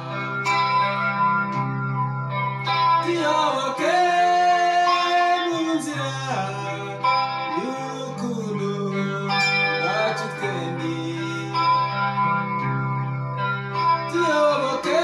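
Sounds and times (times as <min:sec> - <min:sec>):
person singing: 0:00.0 - 0:01.7, 0:02.7 - 0:12.4, 0:13.8 - 0:15.0
electric guitar melody: 0:00.0 - 0:15.0.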